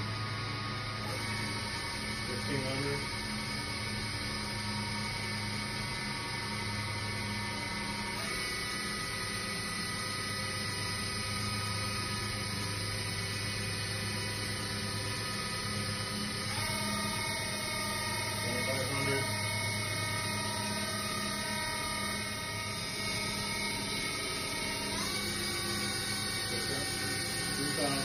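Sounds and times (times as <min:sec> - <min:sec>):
machine spindle whine: 0:00.0 - 0:28.0.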